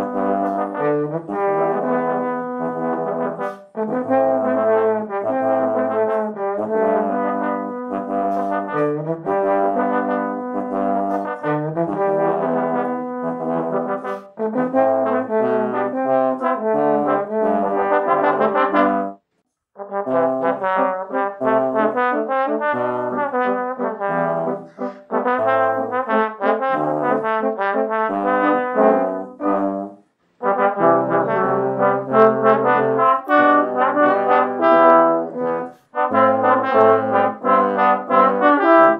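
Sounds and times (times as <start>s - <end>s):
low bass trombone notes: 0.0s - 19.2s, 19.8s - 38.9s
trombone quartet playing ballad: 0.0s - 19.2s, 19.8s - 38.9s.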